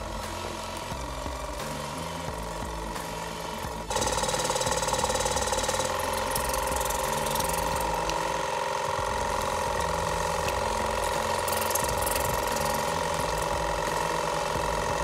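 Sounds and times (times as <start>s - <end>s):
small electric motor buzzing: 0.0s - 15.0s.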